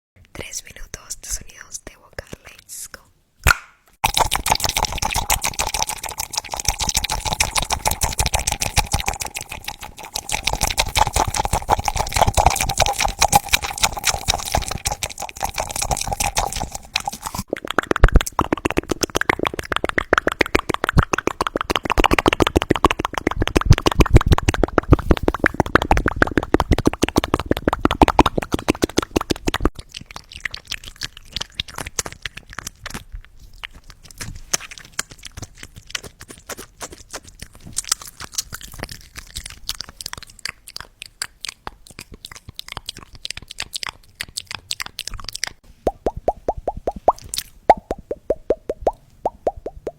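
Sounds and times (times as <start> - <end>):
wet mouth clicks and pops: 3.4 - 49.9.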